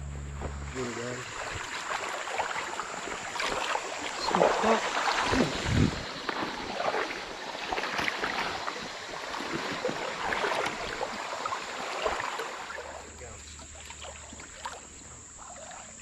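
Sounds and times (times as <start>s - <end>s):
creek water splashing: 0.0s - 16.0s.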